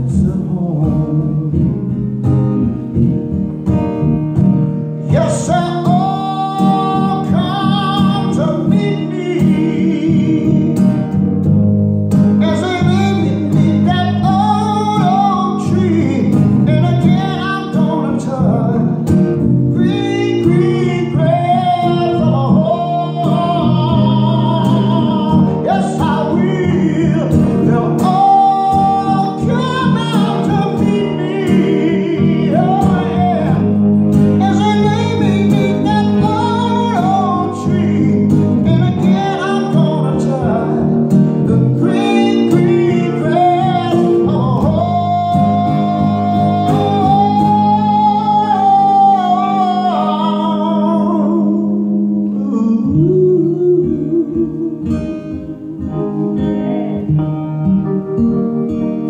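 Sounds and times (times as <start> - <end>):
man singing: 0.0 - 2.1, 5.0 - 11.4, 12.3 - 57.1
acoustic and electric guitars: 0.0 - 59.0.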